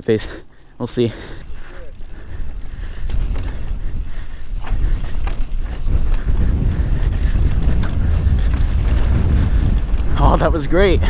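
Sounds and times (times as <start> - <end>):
bike clicks and rattles: 0.0 - 11.0
wind rumbling on microphone: 1.4 - 11.0.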